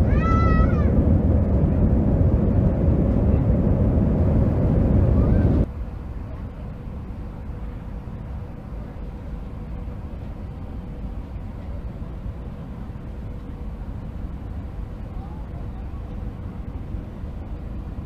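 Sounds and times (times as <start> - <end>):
airliner cabin airflow and engines: 0.0 - 18.0.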